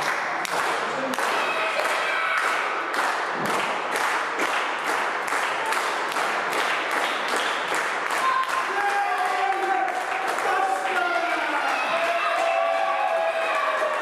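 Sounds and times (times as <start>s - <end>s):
crowd clapping in rhythm: 0.0s - 14.0s.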